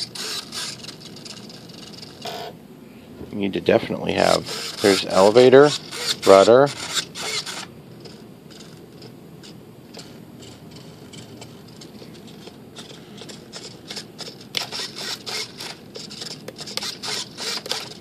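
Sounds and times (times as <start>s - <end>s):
servos whirring: 0.0s - 2.5s, 3.8s - 18.0s.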